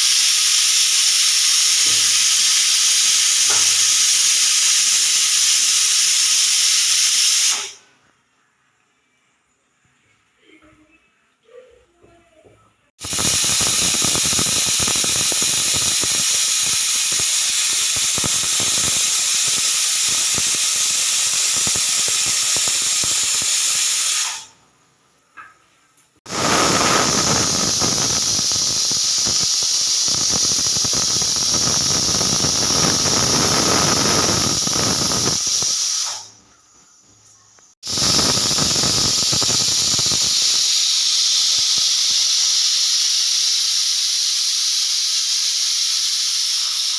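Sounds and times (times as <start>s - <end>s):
pressure cooker whistle: 0.0s - 7.8s, 13.0s - 24.5s, 26.3s - 36.4s, 37.8s - 46.9s.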